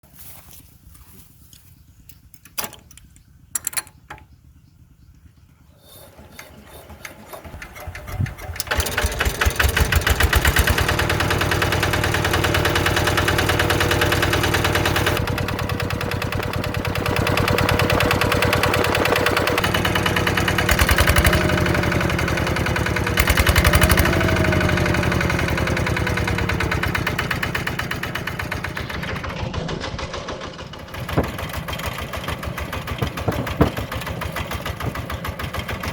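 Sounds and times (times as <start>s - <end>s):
small engine knocking: 5.9s - 35.9s.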